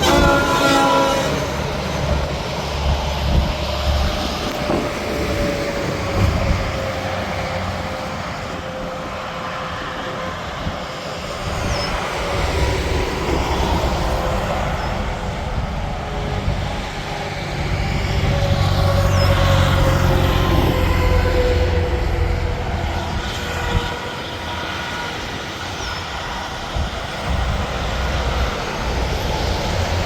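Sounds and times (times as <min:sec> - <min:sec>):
heavy truck rumble: 0:00.0 - 0:30.0
highway traffic rushing: 0:00.0 - 0:30.0.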